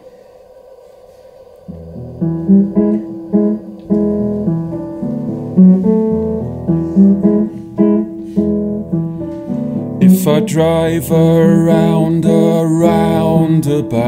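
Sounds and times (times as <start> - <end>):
upright piano chords: 1.7 - 14.0.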